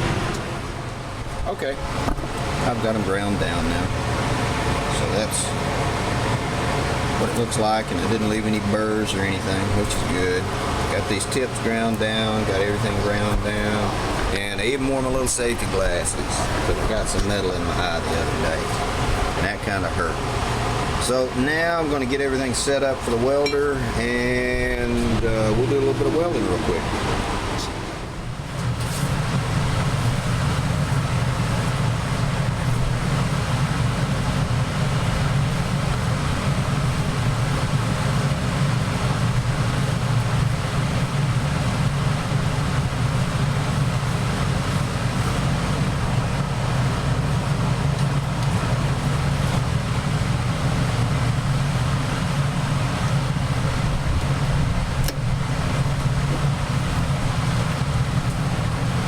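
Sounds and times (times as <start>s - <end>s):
arc welder noise: 0.0s - 59.0s
low hum: 0.0s - 59.0s.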